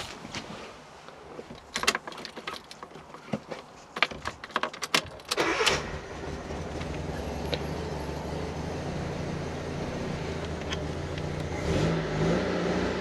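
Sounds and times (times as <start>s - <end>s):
car engine cranking and idling: 1.4s - 13.0s.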